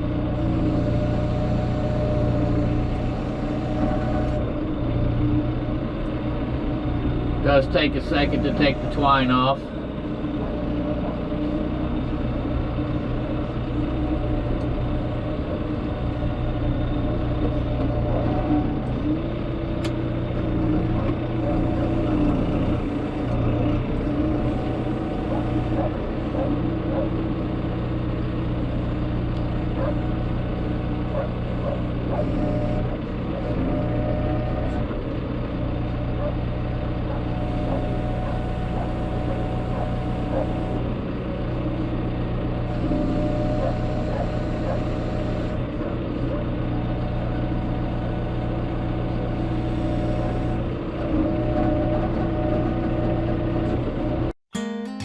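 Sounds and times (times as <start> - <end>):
vehicle engine idling: 0.0 - 54.3.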